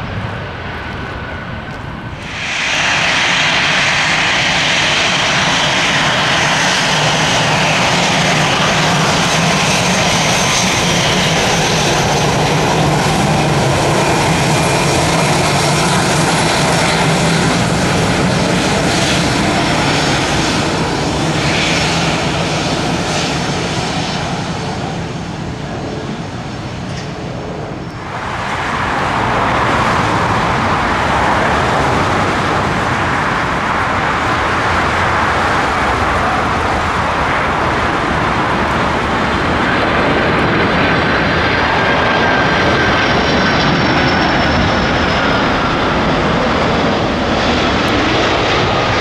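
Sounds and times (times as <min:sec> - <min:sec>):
jet airliner passing close: 0:00.0 - 0:49.0.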